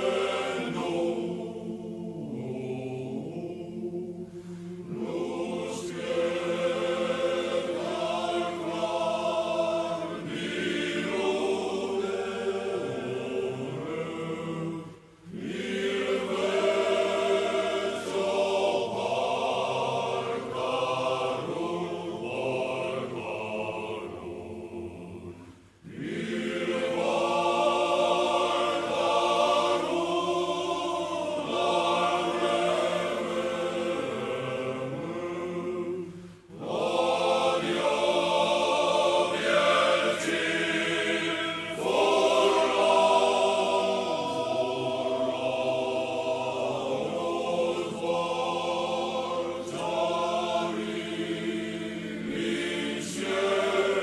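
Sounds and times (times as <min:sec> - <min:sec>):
choir singing sustained notes: 0:00.0 - 0:54.0.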